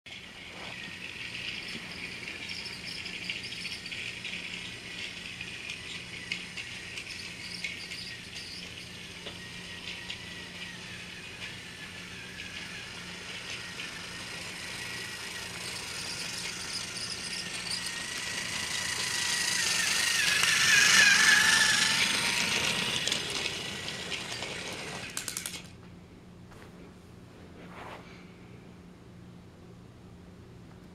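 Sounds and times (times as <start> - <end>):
toy train motor whine: 0.1 - 25.7
toy train wheels rattling: 0.1 - 25.7.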